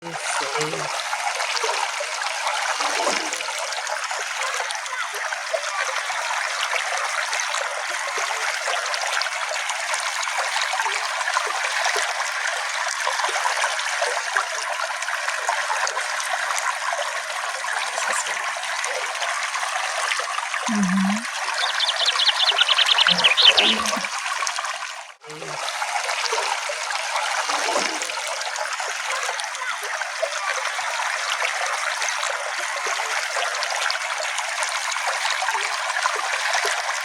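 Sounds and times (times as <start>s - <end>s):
small stream flowing: 0.0s - 37.0s.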